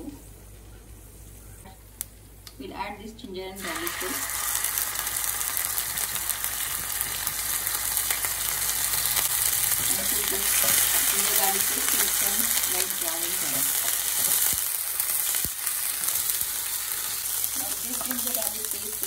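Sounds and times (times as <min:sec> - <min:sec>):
paste sizzling in hot oil: 0:03.6 - 0:19.0.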